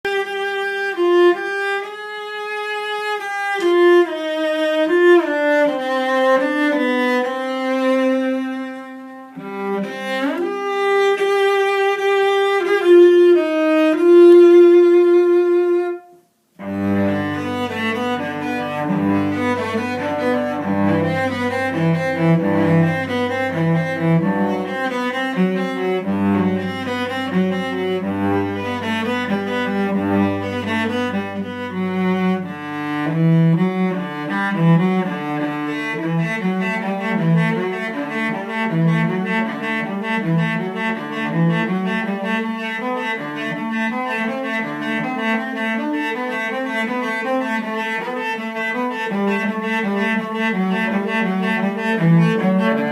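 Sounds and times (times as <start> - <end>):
bowed cello melody: 0.1 - 52.9.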